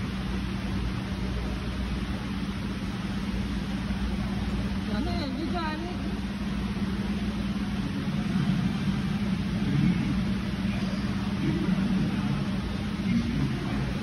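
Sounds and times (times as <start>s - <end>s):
distant voices murmur: 0.0s - 14.0s
machinery hum: 0.0s - 14.0s.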